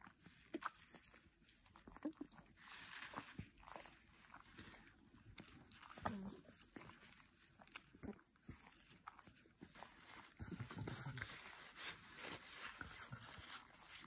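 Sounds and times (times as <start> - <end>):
dog licking and smacking: 0.0 - 14.0.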